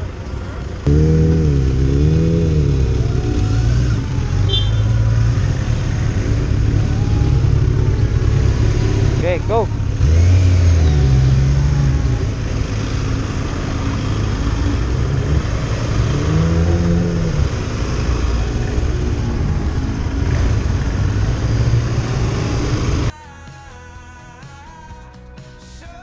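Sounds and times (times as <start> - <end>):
motorcycle engine accelerating: 0.8 - 23.1.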